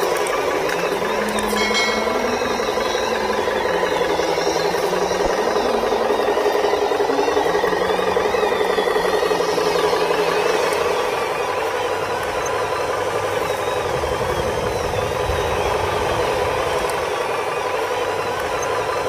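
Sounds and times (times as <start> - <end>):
toy truck motor buzzing: 0.0 - 19.0.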